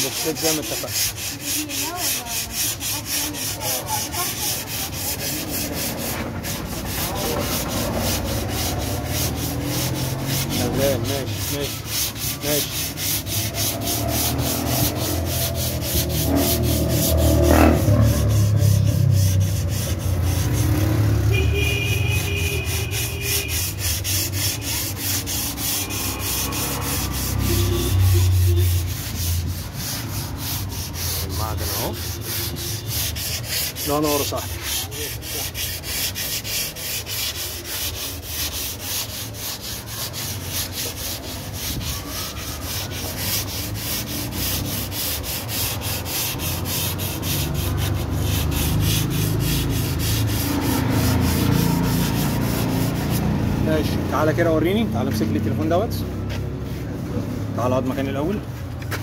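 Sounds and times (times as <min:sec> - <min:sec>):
sandpaper sanding by hand: 0:00.0 - 0:59.0.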